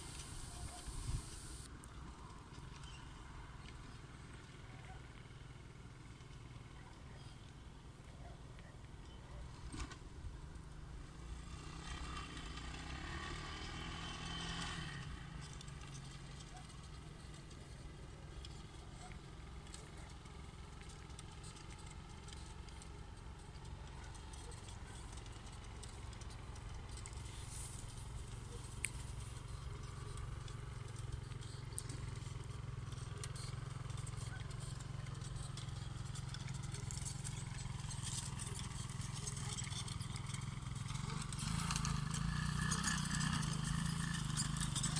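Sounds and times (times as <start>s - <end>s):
quad engine running: 0.0s - 44.9s.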